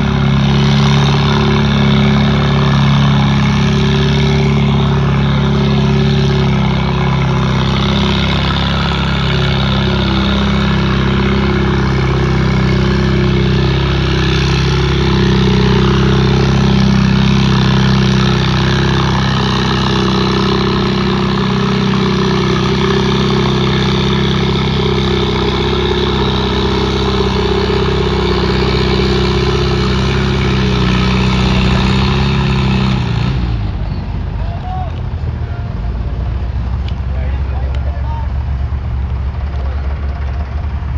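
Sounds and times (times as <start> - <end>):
loud motor hum: 0.0 - 40.9.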